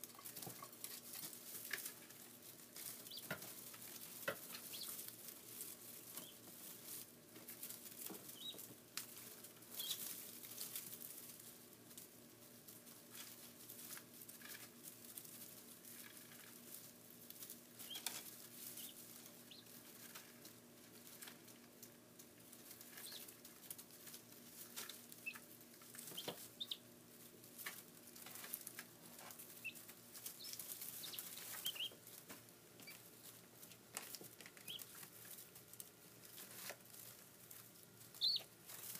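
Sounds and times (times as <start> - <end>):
chicks peeping: 0.0 - 38.9
small feet rustling in straw: 0.0 - 38.9.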